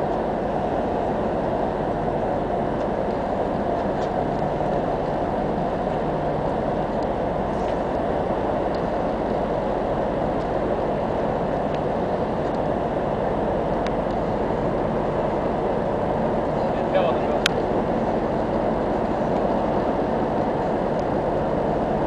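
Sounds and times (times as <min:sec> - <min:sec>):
ship engines droning: 0:00.0 - 0:22.0.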